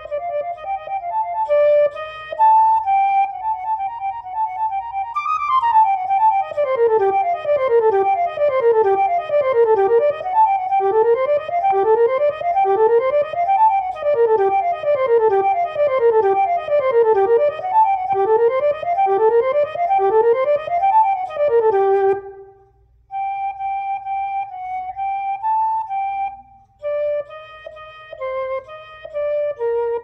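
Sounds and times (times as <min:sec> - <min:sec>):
synthesized flute scale runs: 0:00.0 - 0:30.0.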